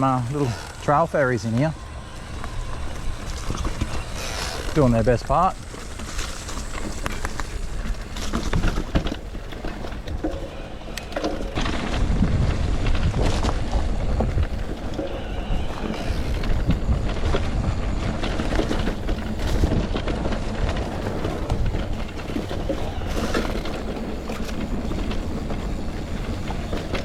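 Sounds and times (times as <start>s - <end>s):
bike knocks and rattles: 0.0s - 27.0s
wind buffeting microphone: 0.0s - 27.0s.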